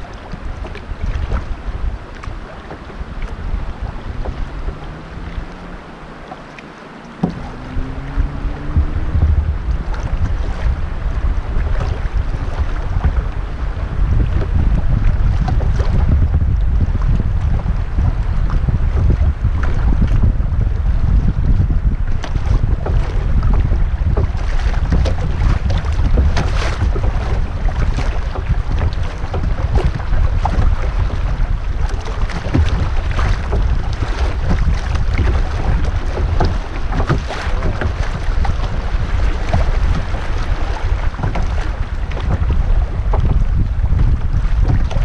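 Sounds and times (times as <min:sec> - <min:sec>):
river water splashing: 0:00.0 - 0:45.0
wind buffeting microphone: 0:00.0 - 0:45.0.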